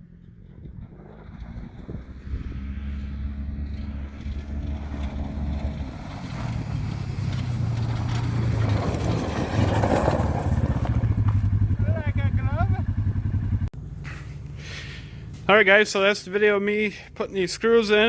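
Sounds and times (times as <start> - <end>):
vehicle engine hum rising: 0.0 - 15.7.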